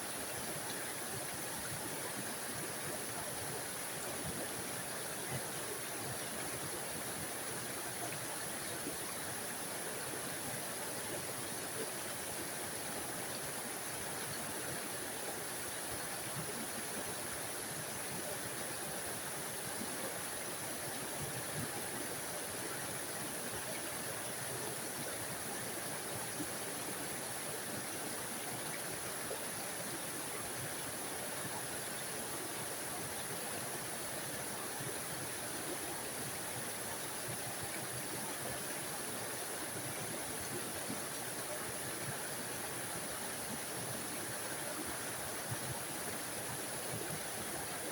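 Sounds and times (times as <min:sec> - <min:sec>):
small waterfall rushing: 0:00.0 - 0:47.9.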